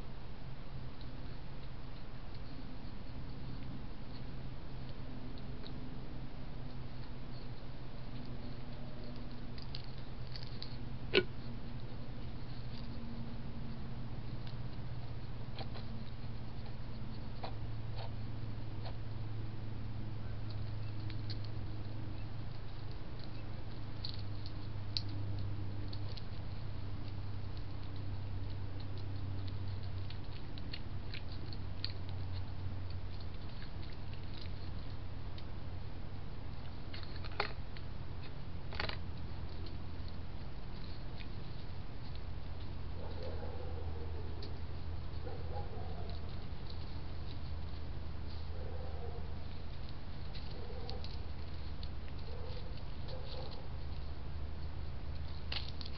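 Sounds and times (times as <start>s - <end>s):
soft scattered ticks and patters: 0.0s - 55.9s
steady low hum: 0.0s - 55.9s
animals crunching food: 0.4s - 55.9s.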